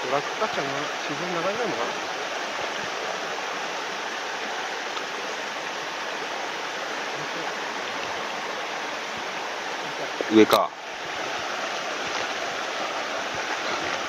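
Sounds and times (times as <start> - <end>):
stream running over stones: 0.0 - 14.0.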